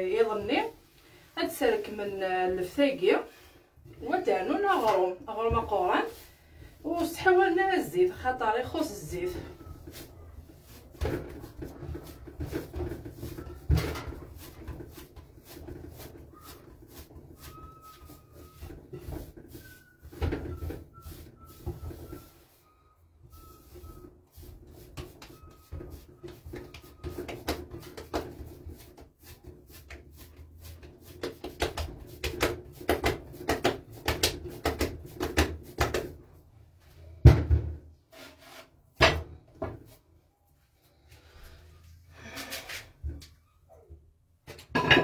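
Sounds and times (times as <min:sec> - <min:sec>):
dough kneaded by hand: 0:00.0 - 0:37.4.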